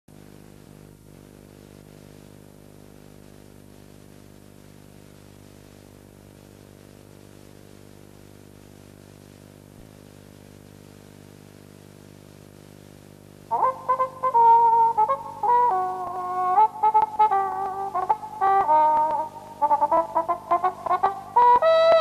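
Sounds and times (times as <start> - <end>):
steady low hum: 0.1 - 22.0.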